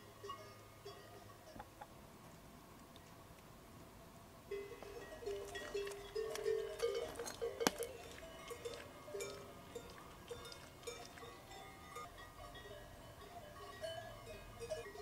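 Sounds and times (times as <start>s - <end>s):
metal livestock bell clanking: 0.0s - 1.7s, 4.5s - 15.0s.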